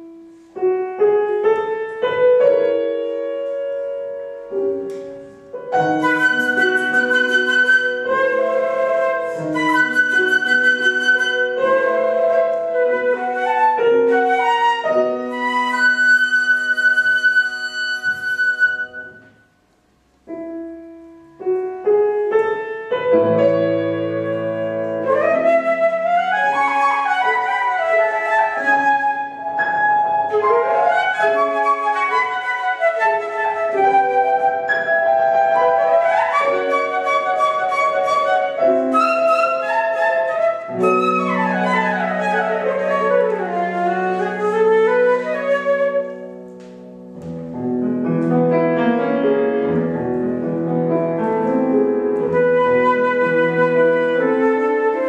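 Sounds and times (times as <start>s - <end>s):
flute playing classical piece: 0.0s - 19.6s, 20.3s - 55.0s
piano accompaniment: 0.0s - 55.0s.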